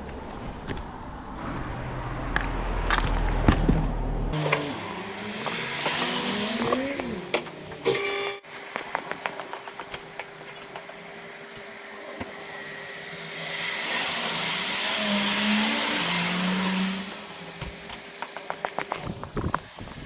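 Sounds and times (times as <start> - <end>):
vehicle engine wavering: 0.6 - 8.4, 9.7 - 18.6.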